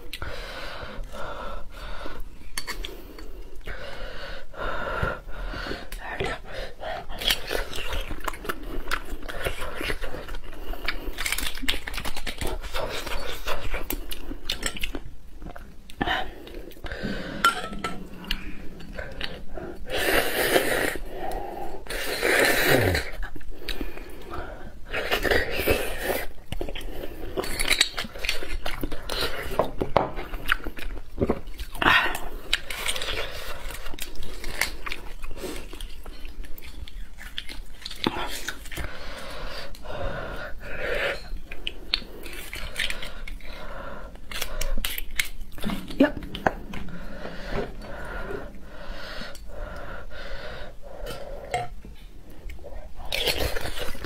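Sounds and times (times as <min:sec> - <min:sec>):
wet chewing and sucking: 0:05.4 - 0:54.0.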